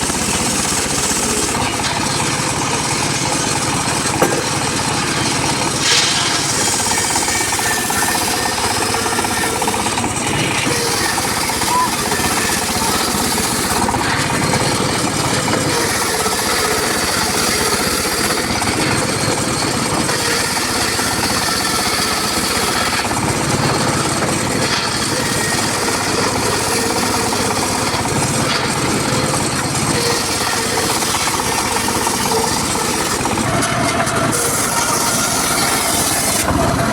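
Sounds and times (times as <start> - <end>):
circular saw cutting wood: 0.0 - 36.9.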